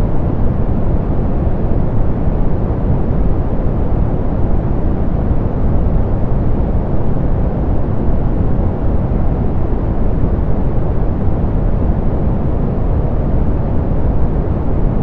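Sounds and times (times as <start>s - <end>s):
steady pink noise: 0.0s - 15.0s.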